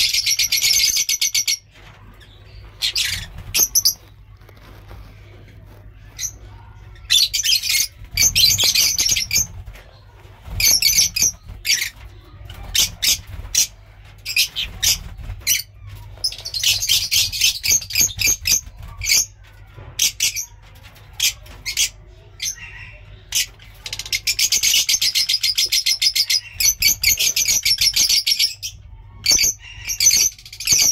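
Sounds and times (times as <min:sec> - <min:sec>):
lovebirds chattering and calling: 0:00.0 - 0:30.9.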